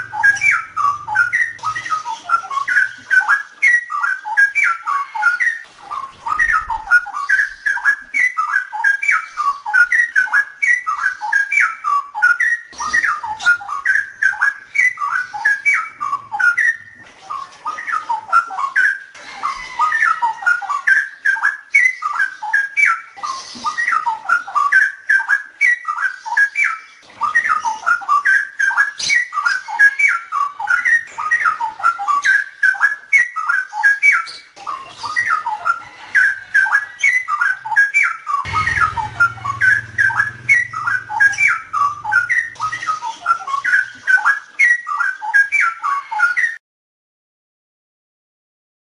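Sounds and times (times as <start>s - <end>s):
bird singing whistled warbles: 0.0s - 46.6s.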